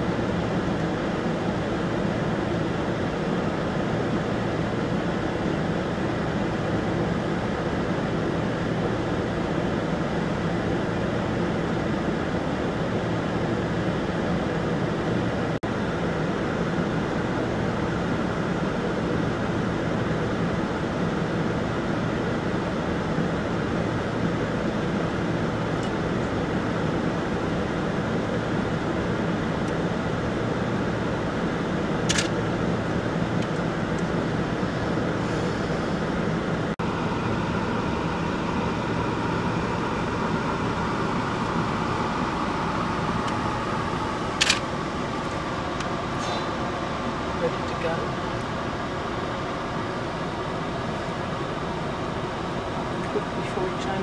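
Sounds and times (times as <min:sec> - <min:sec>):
minibus engine idling: 0:00.0 - 0:54.0.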